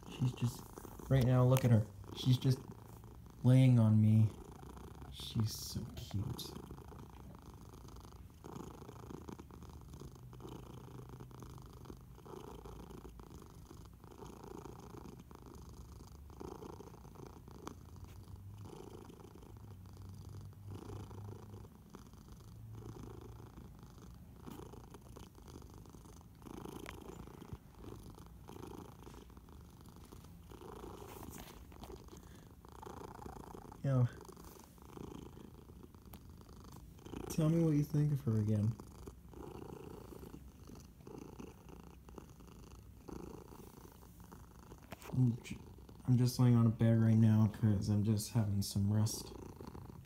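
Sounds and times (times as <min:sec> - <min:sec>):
cat purring: 0:00.0 - 0:50.0.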